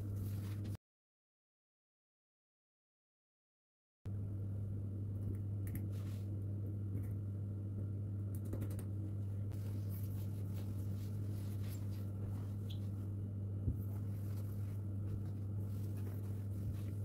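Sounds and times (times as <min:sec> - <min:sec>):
low electrical hum: 0:00.0 - 0:00.8, 0:04.1 - 0:17.0.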